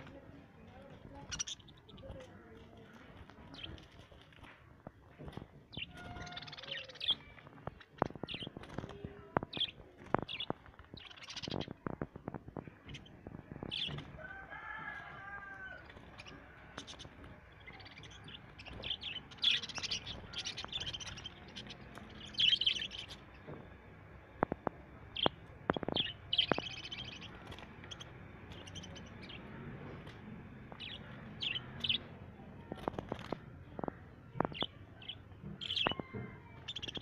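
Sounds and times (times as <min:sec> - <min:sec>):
birds clicking in cage: 0:00.0 - 0:23.4, 0:24.4 - 0:32.0, 0:32.7 - 0:34.7.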